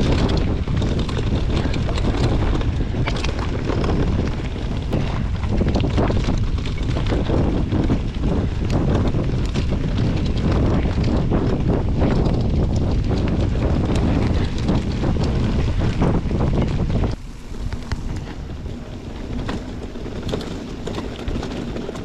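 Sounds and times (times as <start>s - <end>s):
bike clicks and rattles: 0.0s - 22.0s
wind buffeting microphone: 0.0s - 22.0s.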